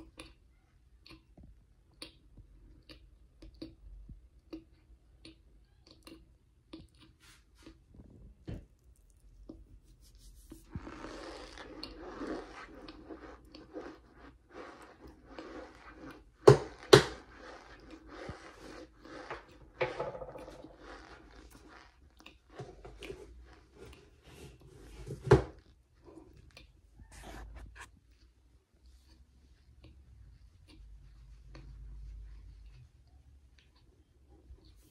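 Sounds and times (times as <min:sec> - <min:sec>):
chewing with wet mouth noises: 0:00.0 - 0:19.7, 0:20.8 - 0:24.2, 0:25.6 - 0:27.2, 0:28.0 - 0:34.9.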